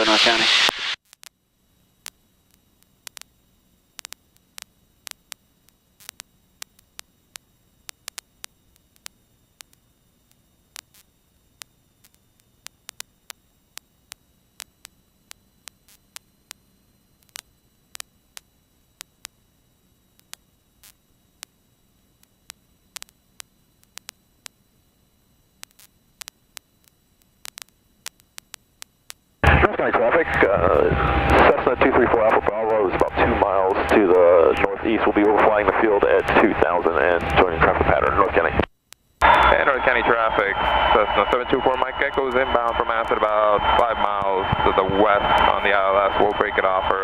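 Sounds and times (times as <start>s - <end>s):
faint electrical hum: 0.0s - 47.0s
static clicks and crackles: 0.0s - 47.0s.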